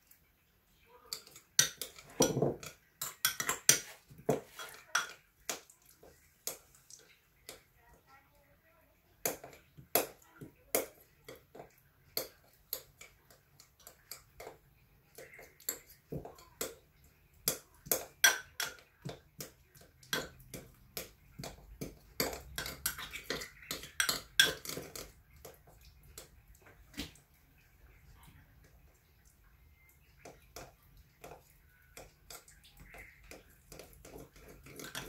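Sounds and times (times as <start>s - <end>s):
kitchen utensils clicking and knocking: 1.0s - 7.8s, 9.2s - 27.2s, 29.8s - 35.0s.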